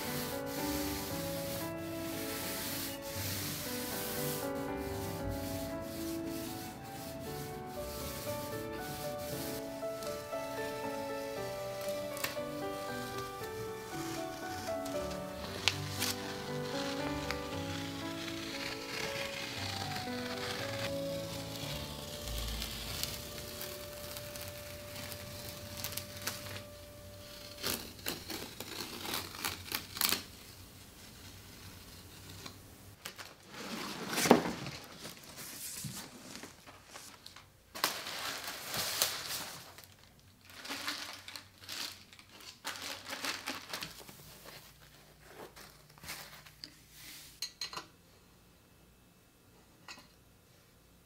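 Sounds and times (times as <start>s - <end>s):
plastic wrap and cardboard crinkling: 0.0s - 47.2s.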